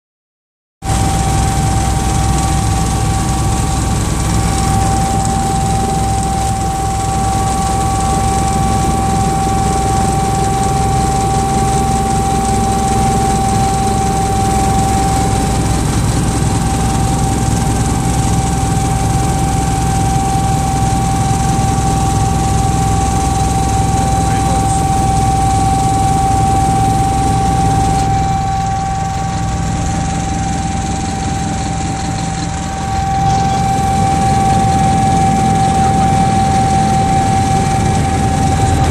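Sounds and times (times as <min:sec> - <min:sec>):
constant high whine: 0:00.8 - 0:38.9
helicopter engines and rotors drone: 0:00.8 - 0:38.9.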